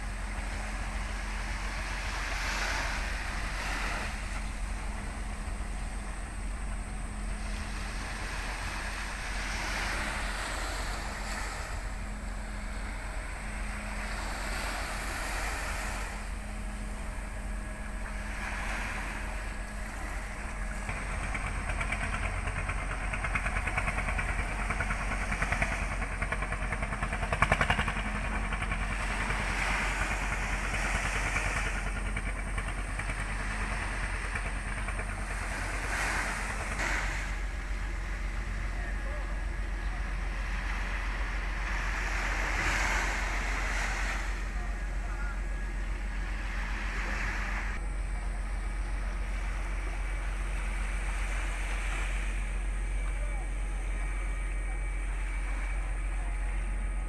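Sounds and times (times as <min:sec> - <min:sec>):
harbour water: 0:00.0 - 0:57.0
ship engines humming: 0:00.0 - 0:57.0
wind: 0:00.0 - 0:57.0.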